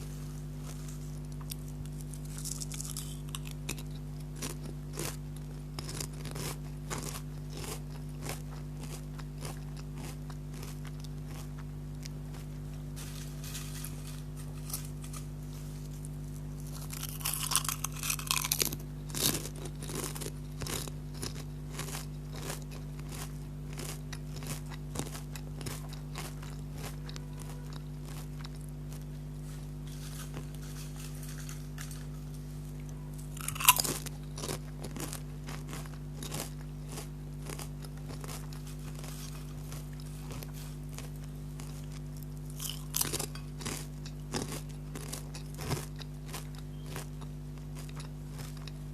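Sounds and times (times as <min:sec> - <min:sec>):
chewing crunchy potato chips: 0:00.0 - 0:48.9.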